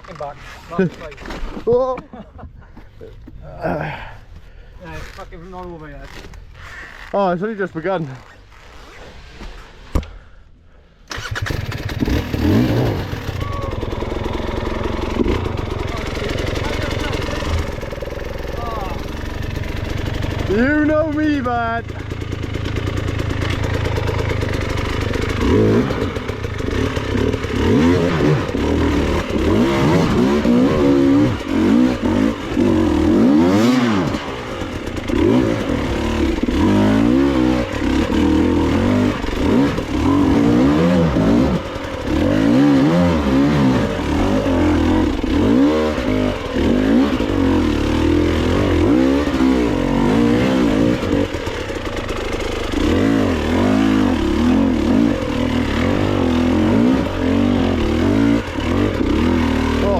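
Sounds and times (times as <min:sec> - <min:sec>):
dirt bike engine revving: 0:11.1 - 0:59.9.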